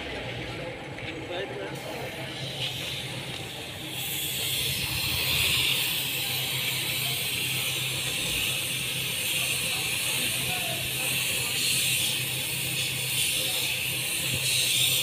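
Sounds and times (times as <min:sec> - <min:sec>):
paint spray gun hissing: 0:02.4 - 0:15.0.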